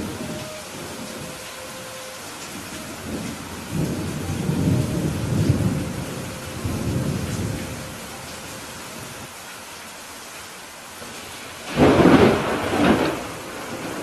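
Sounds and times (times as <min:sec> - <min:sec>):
thunder rumble: 0:00.0 - 0:09.3, 0:11.0 - 0:14.0
steady rain: 0:00.0 - 0:14.0.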